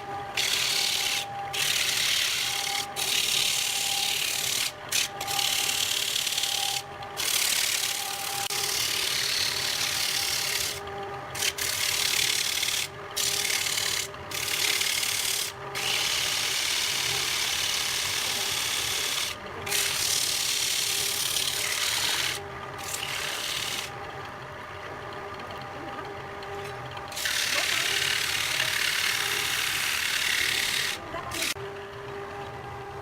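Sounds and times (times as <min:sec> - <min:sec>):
lathe motor humming: 0:00.0 - 0:33.0.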